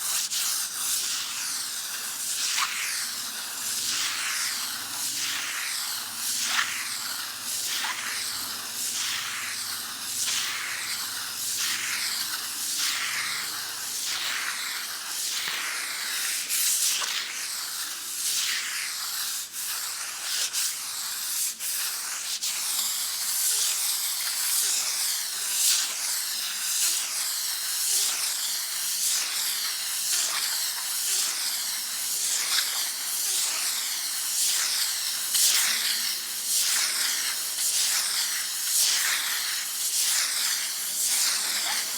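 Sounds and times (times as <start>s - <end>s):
sandpaper rasping on a wall: 0.0s - 41.9s.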